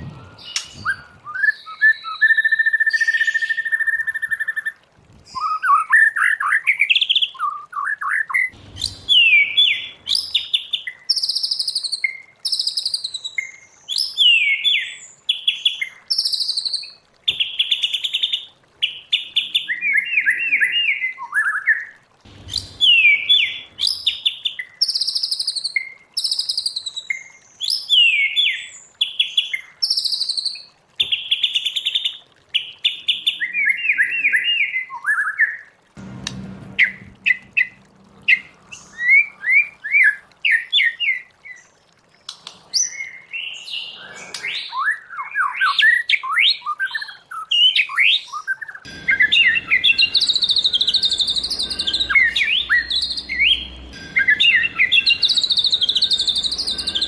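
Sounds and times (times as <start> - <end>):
bird singing varied song: 0.0 - 31.5, 32.6 - 57.0.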